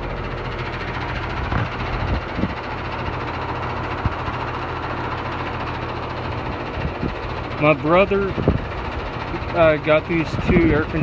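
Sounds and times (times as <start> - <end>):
compressor hum: 0.0 - 11.0
condenser fan rushing: 0.0 - 11.0.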